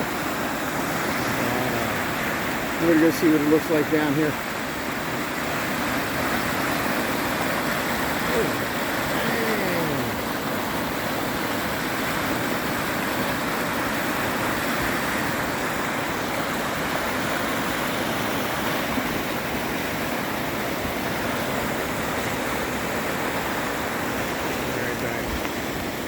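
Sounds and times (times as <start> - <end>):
creek rushing in flood: 0.0 - 26.0.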